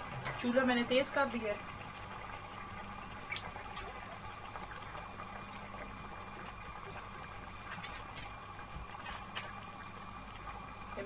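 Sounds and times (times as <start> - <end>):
stove flame hissing: 0.0 - 11.0.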